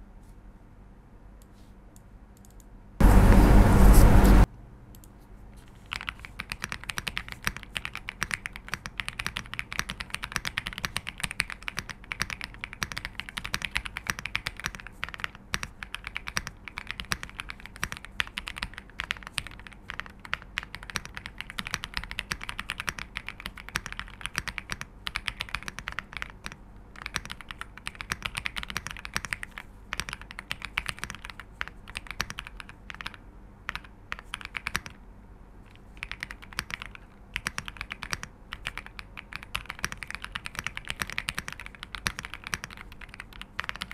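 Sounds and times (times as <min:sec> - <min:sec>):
fast mechanical keyboard typing: 0:05.8 - 0:35.0, 0:35.7 - 0:43.9.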